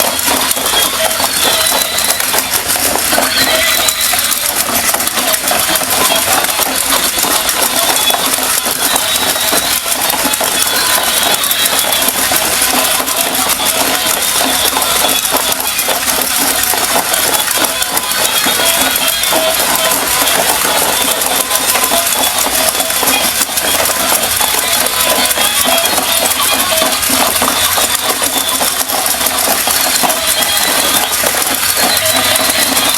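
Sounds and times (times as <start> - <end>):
toy motor gears clicking: 0.0 - 32.9.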